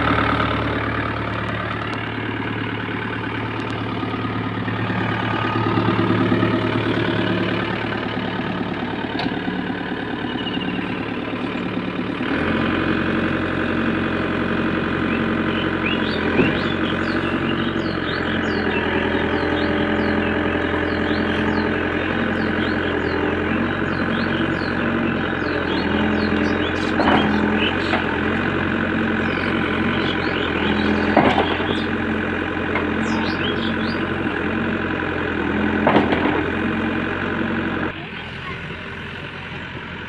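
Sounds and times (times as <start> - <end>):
diesel engine running at low revs: 0.0 - 40.0.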